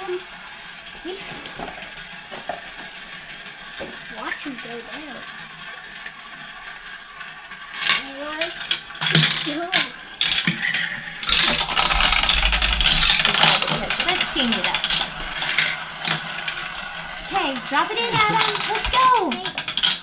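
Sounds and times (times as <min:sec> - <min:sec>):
marbles clattering through plastic run: 0:00.0 - 0:20.0.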